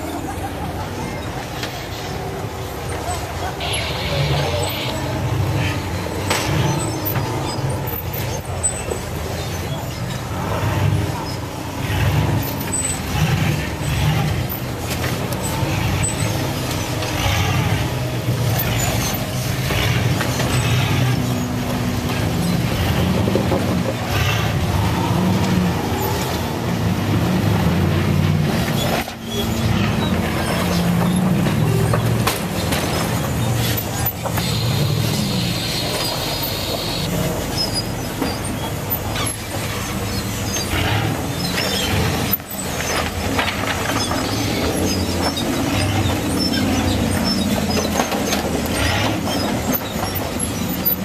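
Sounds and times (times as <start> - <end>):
off-road engines revving: 0.0 - 51.0.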